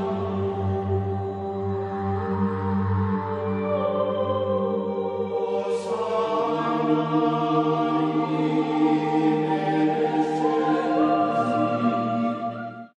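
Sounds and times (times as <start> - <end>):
ambient choir-like music: 0.0 - 12.9.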